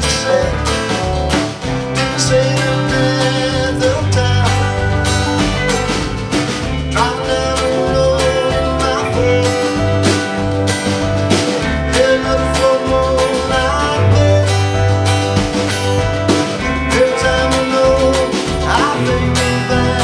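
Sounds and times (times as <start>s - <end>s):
live country-rock band: 0.0s - 20.0s.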